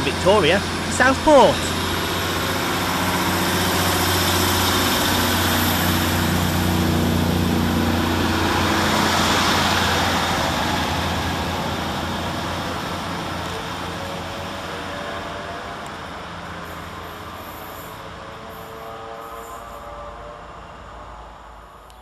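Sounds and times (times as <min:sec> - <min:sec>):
diesel train engine: 0:00.0 - 0:22.0
train rushing and wheel noise: 0:00.0 - 0:22.0.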